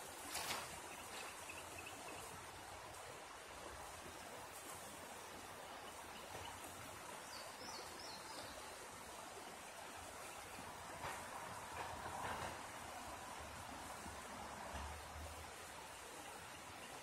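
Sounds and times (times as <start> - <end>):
river flowing: 0.0 - 17.0
rustle: 0.0 - 17.0.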